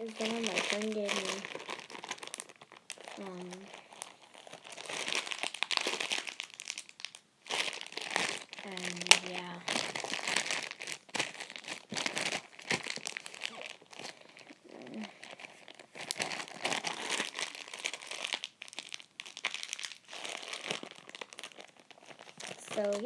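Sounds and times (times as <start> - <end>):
slime squished crackling: 0.0 - 23.0.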